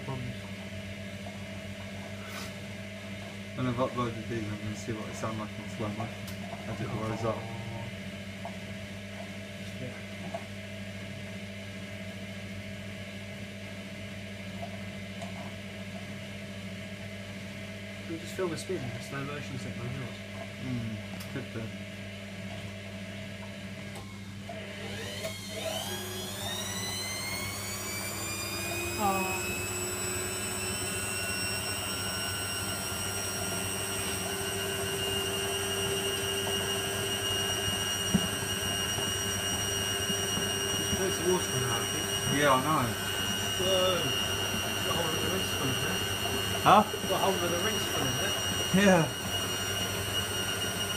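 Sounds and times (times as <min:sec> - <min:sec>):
washing machine motor hum: 0:00.0 - 0:50.9.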